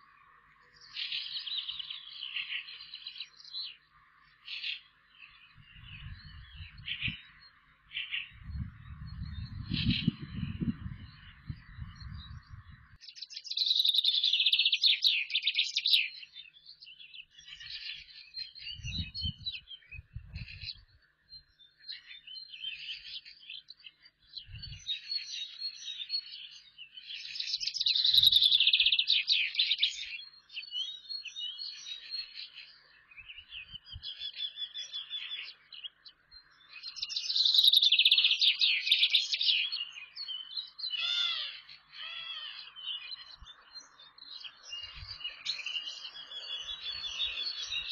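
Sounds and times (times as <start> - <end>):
soft bird chirps: 0.0 - 47.9
songbird trilling: 0.0 - 47.9.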